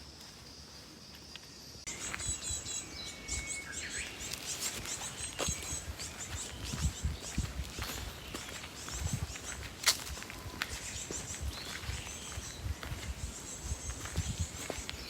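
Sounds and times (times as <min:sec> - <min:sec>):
footsteps on a path: 0:00.0 - 0:15.0
birds chirping and calling: 0:01.9 - 0:15.0.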